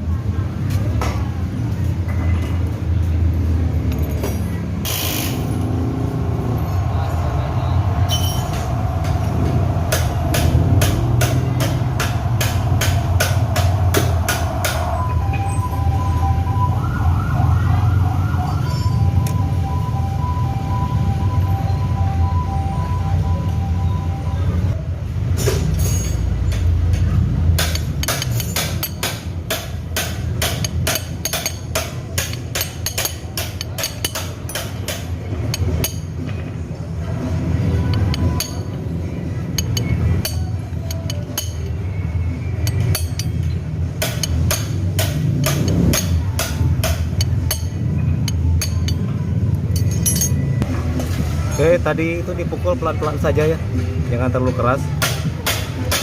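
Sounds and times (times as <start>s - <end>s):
low steady rumble: 5.2s - 52.6s.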